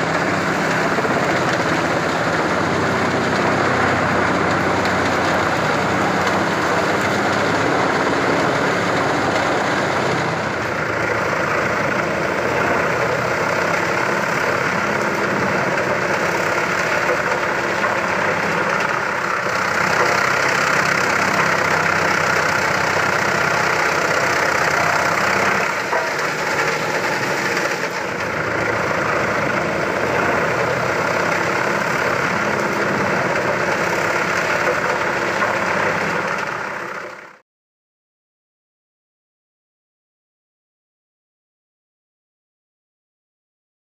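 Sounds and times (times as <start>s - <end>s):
wood chipper running: 0.0s - 37.4s.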